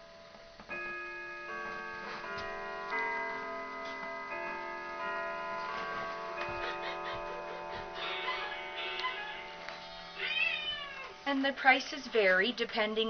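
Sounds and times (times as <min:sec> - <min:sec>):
clock chime notes: 0:00.0 - 0:13.0.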